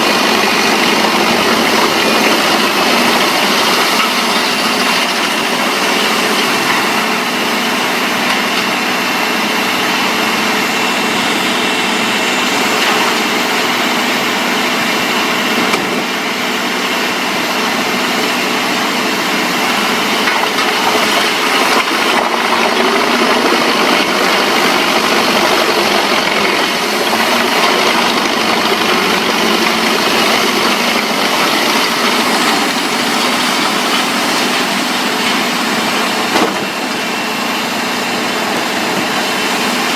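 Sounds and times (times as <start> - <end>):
engine-driven machine running: 0.0 - 39.9.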